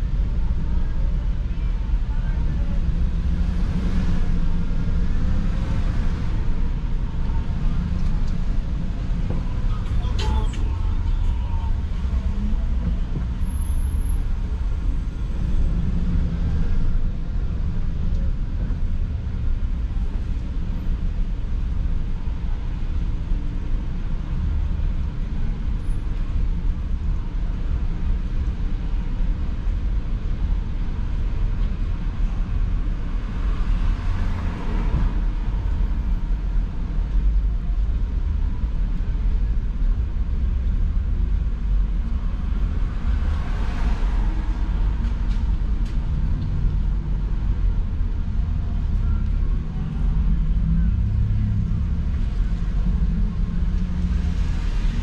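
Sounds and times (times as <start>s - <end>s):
car rumble from inside cabin: 0.0s - 55.0s
street traffic: 0.0s - 55.0s.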